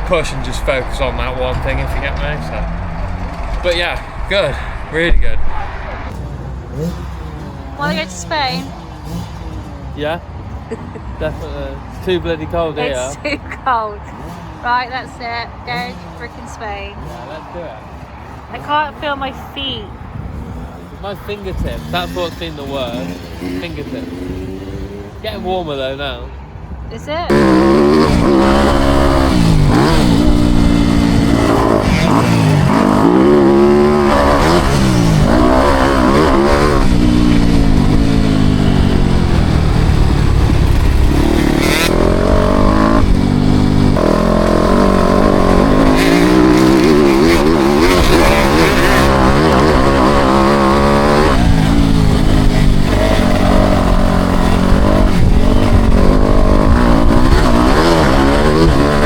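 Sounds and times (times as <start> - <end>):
motocross bike engine revving: 0.0 - 19.3, 20.8 - 25.4, 27.0 - 59.0.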